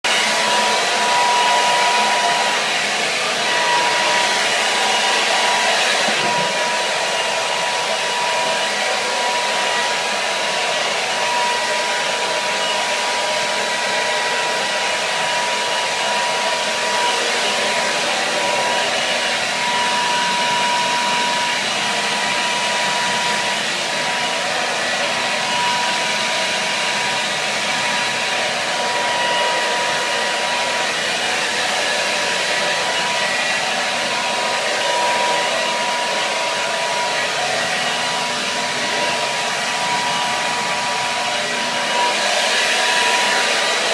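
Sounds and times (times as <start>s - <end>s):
hair dryer running: 0.0s - 43.9s.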